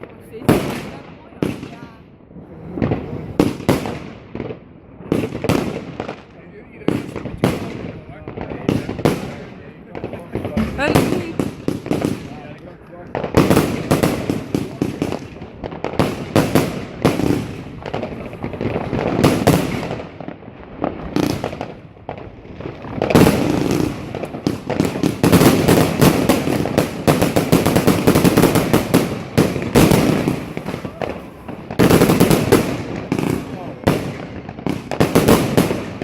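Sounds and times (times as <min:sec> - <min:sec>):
firework shots and crackling bursts: 0:00.0 - 0:36.0.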